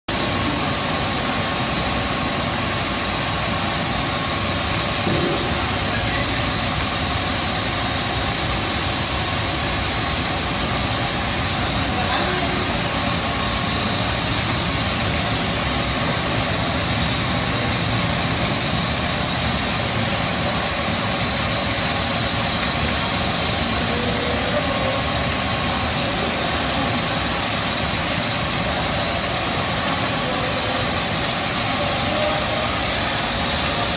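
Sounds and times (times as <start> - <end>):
faint steady machine tones: 0.1 - 33.9
motors and conveyors running: 0.1 - 33.9.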